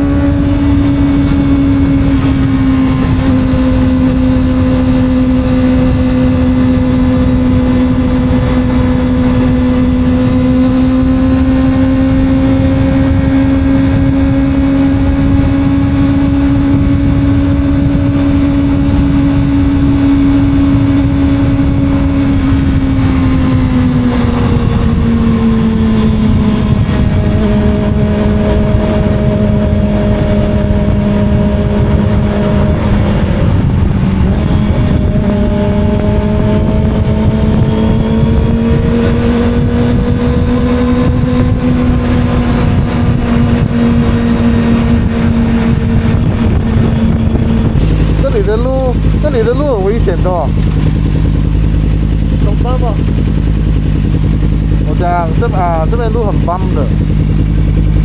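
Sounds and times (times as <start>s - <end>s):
motorcycle engine cruising: 0.0s - 58.0s
wind noise: 0.0s - 58.0s.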